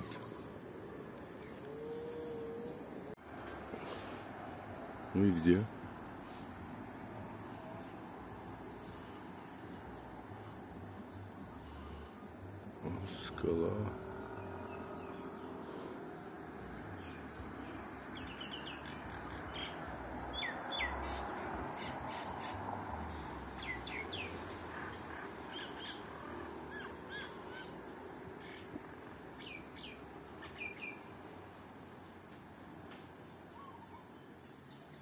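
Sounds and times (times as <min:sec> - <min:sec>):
small birds chirping: 0:00.0 - 0:04.2, 0:07.3 - 0:32.2, 0:33.2 - 0:35.0
steady high-pitched hiss: 0:00.0 - 0:35.0.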